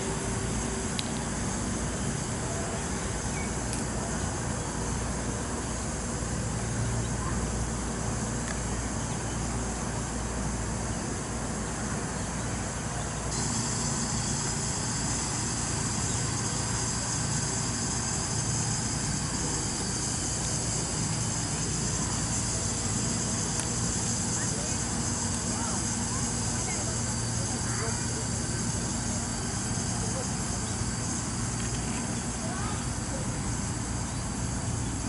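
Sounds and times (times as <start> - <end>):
high-pitched hiss: 0.0 - 35.0.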